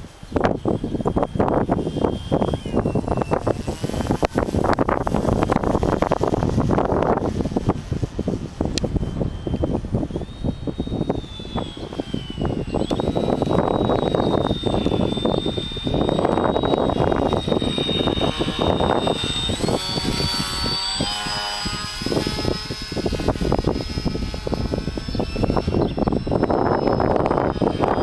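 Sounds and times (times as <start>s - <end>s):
gusty rumble: 0.0s - 28.0s
model plane motor whine: 0.0s - 28.0s.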